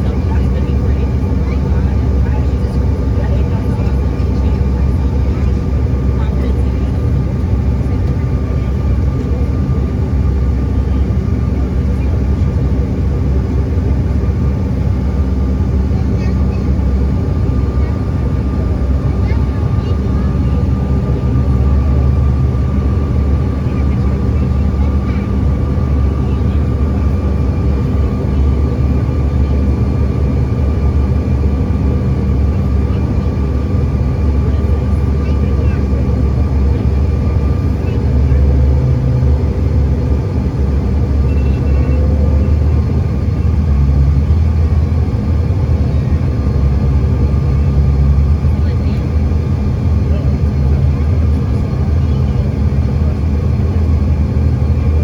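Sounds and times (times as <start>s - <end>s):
airliner engines droning in cabin: 0.0s - 55.0s.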